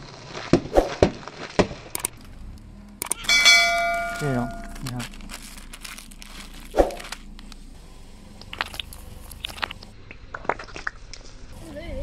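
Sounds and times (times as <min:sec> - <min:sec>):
plastic tubes crackling under tyre: 0:00.0 - 0:03.3, 0:04.1 - 0:11.8.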